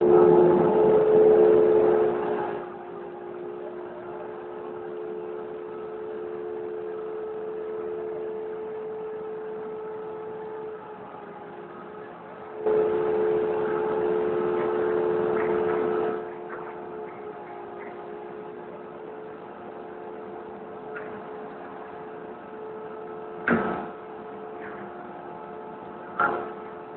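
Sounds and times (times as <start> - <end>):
machine motor whine: 0.0 - 26.9.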